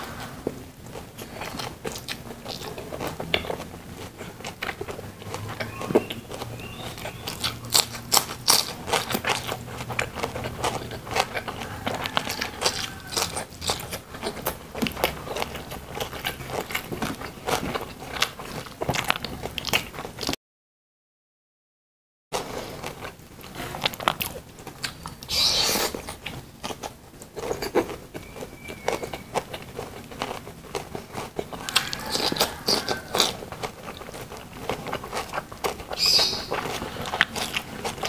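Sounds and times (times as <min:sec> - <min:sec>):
crunching fried chicken bites: 0:00.8 - 0:20.4, 0:22.4 - 0:38.0.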